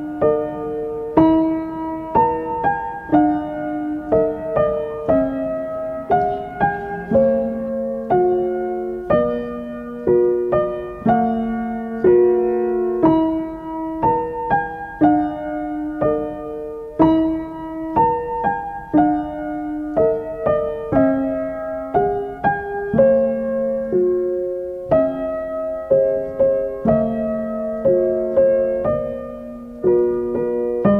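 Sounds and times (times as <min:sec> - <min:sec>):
slow solo piano piece: 0:00.0 - 0:30.9.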